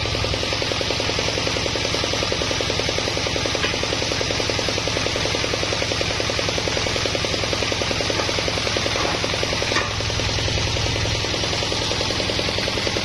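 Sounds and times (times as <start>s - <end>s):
bandsaw mill running: 0.0s - 13.0s.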